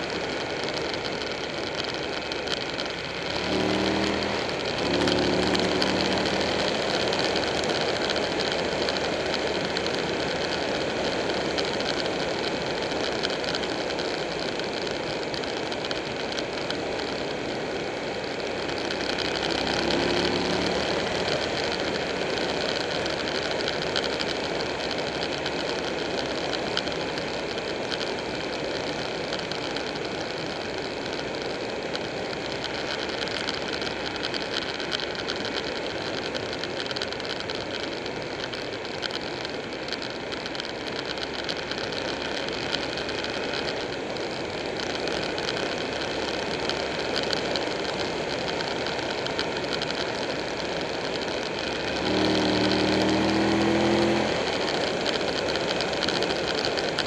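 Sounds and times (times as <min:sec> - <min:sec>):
motorcycle engine cruising: 0:00.0 - 0:57.0
road noise: 0:00.0 - 0:57.0.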